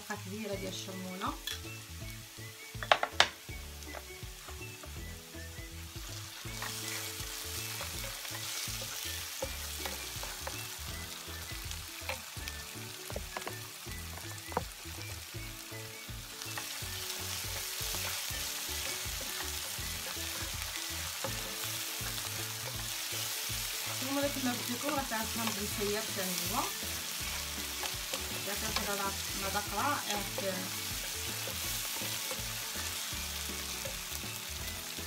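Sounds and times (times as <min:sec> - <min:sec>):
onion sizzling in oil: 0:00.0 - 0:35.0.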